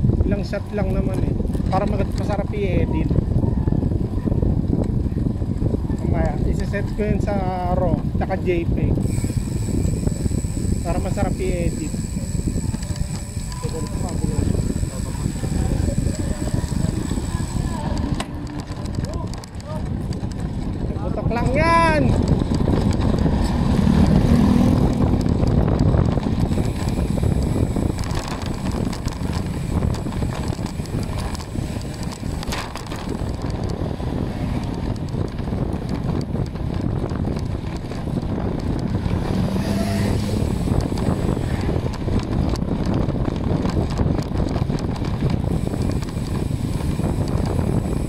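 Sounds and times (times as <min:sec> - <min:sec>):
road noise rumble: 0:00.0 - 0:48.0
wind rushing over microphone: 0:00.0 - 0:48.0.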